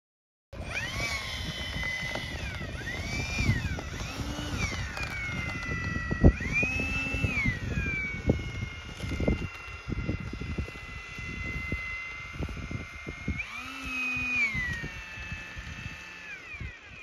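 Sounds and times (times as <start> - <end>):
electric ducted fan jet whining: 0.6 - 17.0.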